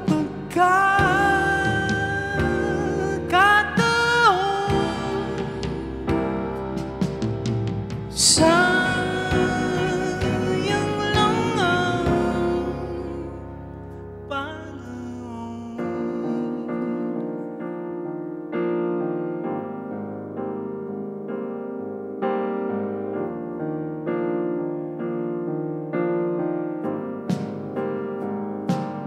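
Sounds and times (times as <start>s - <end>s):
keyboard chords: 0.0s - 29.0s.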